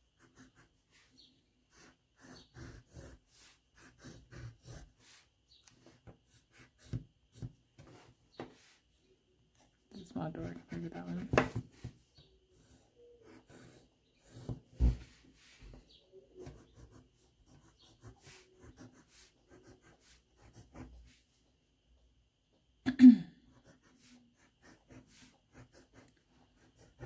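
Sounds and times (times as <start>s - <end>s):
pencil strokes on paper: 0.2s - 9.0s, 9.6s - 21.4s, 23.6s - 27.0s.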